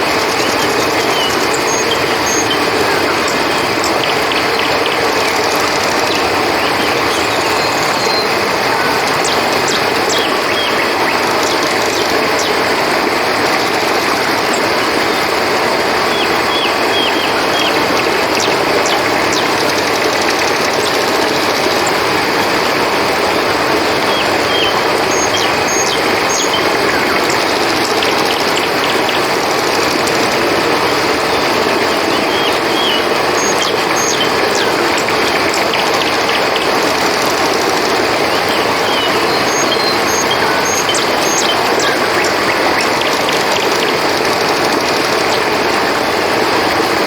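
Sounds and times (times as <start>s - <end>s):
crickets chorus: 0.0s - 47.0s
river water flowing: 0.0s - 47.0s.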